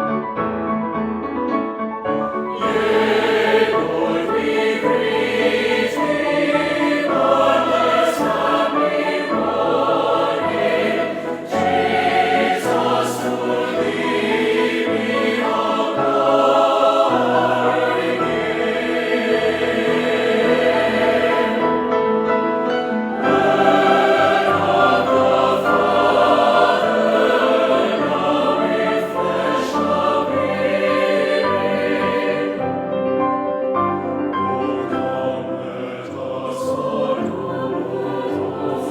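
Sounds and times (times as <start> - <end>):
choir singing a hymn: 2.1 - 38.9.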